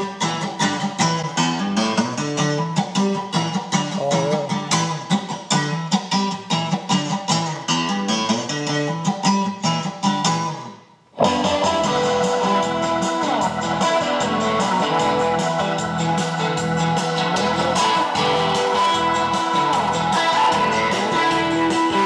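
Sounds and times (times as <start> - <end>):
guitar song over speakers: 0.0 - 22.0.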